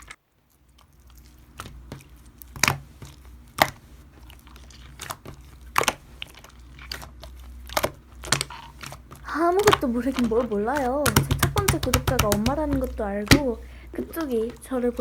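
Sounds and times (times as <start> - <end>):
faint low hum: 0.0 - 15.0
slime clicking and popping: 1.5 - 3.8, 4.6 - 15.0.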